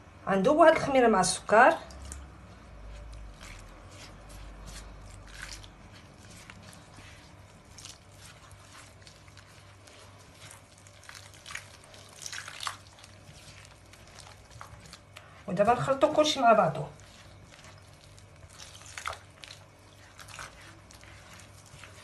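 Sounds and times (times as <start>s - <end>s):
hand squishing wet flour: 0.7s - 22.0s.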